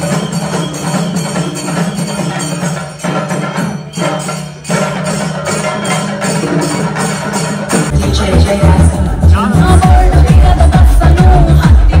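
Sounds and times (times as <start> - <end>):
music with percussive beat: 0.0 - 12.0.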